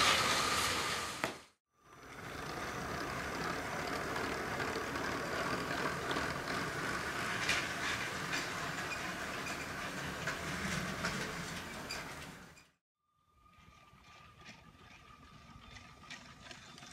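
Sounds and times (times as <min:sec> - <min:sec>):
toy trains rolling: 0:01.8 - 0:12.7, 0:13.4 - 0:16.9
wagons clicking over track joints: 0:02.0 - 0:12.7, 0:13.5 - 0:16.9.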